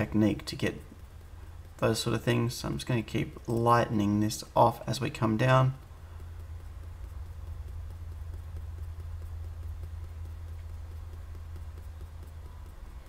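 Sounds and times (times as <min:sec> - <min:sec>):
pencil tapping on paper: 0:00.0 - 0:13.0
steady low hum: 0:00.0 - 0:13.0.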